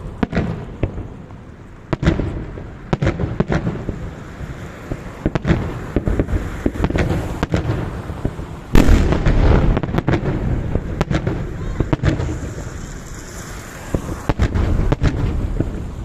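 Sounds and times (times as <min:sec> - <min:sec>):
firework bangs: 0:00.0 - 0:16.0
rumble of explosions: 0:00.0 - 0:16.0.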